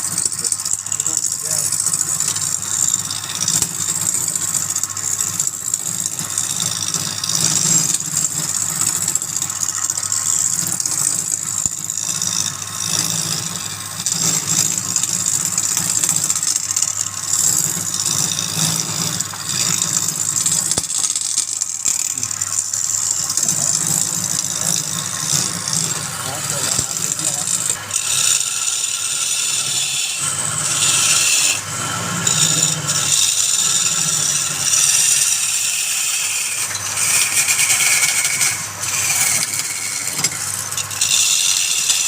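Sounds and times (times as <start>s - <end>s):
lathe motor hum: 0.0s - 42.0s
tool scraping spinning wood: 0.0s - 42.0s.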